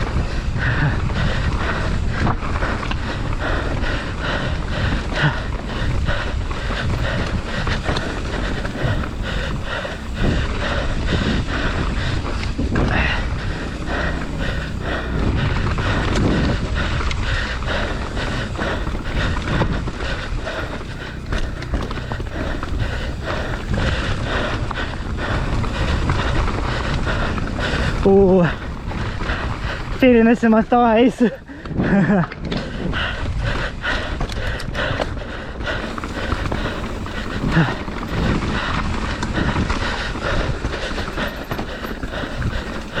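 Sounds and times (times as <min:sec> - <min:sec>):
bike rattling and knocking: 0:00.0 - 0:43.0
tyres rolling over dirt and stones: 0:00.0 - 0:43.0.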